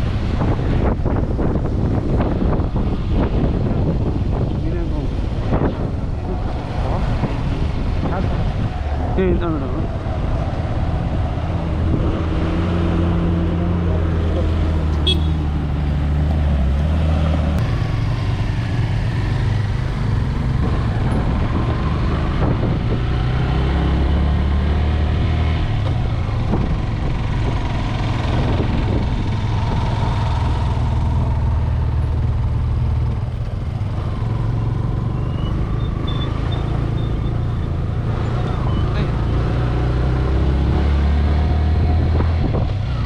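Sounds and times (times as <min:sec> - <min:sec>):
road and wind noise: 0:00.0 - 0:43.0.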